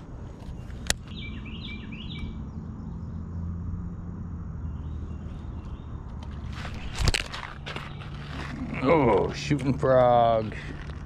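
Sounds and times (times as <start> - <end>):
bird chirping: 0.0 - 9.5.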